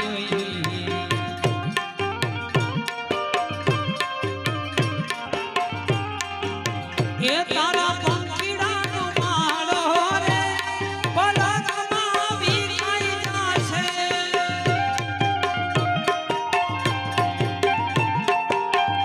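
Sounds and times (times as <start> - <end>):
tabla rhythm: 0.0 - 19.0.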